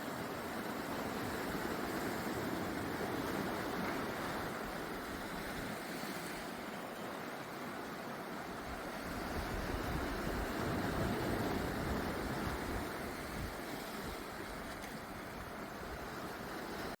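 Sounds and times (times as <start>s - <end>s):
sea waves on a beach: 0.0s - 17.0s.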